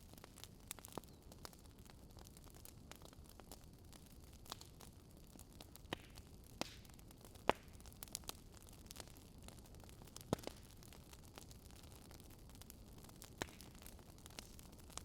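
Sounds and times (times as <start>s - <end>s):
burning logs crackling: 0.0s - 15.0s.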